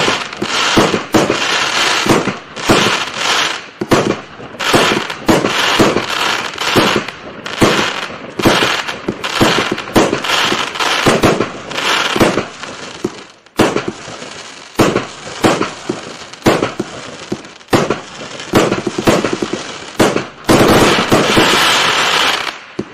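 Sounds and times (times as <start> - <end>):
firework cake bangs: 0.0 - 3.1, 3.8 - 22.9
firework crackling: 0.0 - 22.9.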